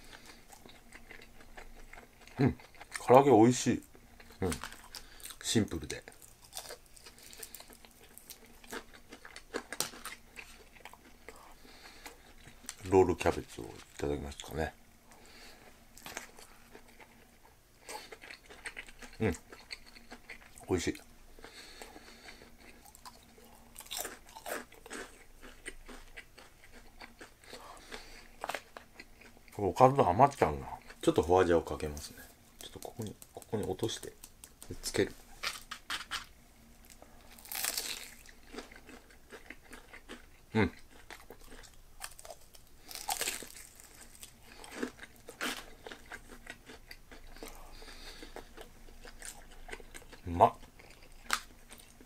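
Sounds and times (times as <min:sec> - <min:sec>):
person chewing food: 0:00.0 - 0:03.1, 0:03.8 - 0:05.4, 0:06.0 - 0:14.0, 0:15.1 - 0:29.6, 0:32.1 - 0:52.0.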